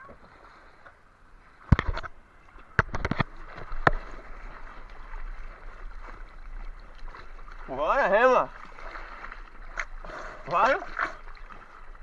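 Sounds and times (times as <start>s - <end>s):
paddling splashes: 0.0s - 12.0s
surf washing: 0.0s - 12.0s.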